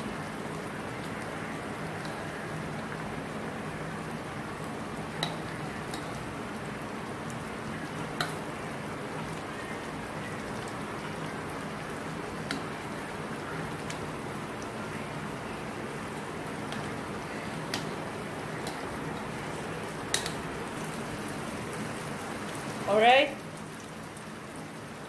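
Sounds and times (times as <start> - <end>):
gravy bubbling in a wok: 0.0 - 25.0.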